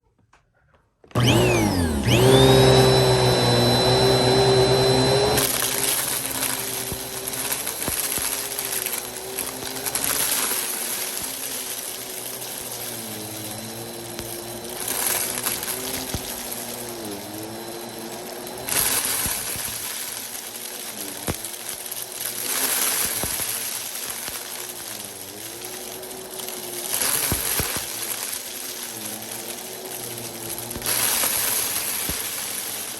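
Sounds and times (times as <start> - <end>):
vacuum cleaner motor whining: 1.0 - 32.9
dry food rattling in vacuum: 1.2 - 32.9.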